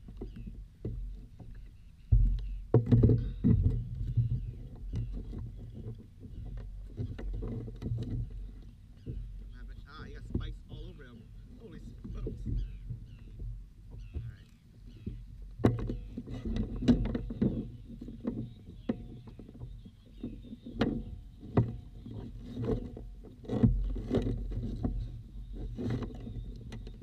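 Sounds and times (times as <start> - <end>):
fishing tackle knocks and clicks: 0.0 - 10.9, 12.0 - 27.0
wind and water rumble: 0.0 - 27.0.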